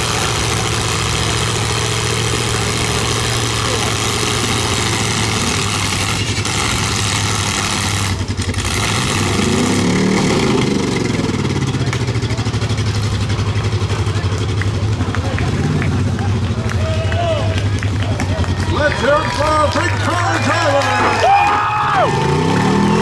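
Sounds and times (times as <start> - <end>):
car engines running: 0.0 - 23.0
engine revving: 0.0 - 23.0.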